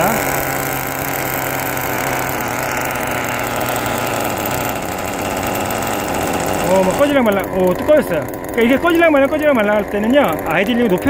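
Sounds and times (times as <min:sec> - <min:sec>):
small engine idling with buzzing rasp: 0:00.0 - 0:11.0.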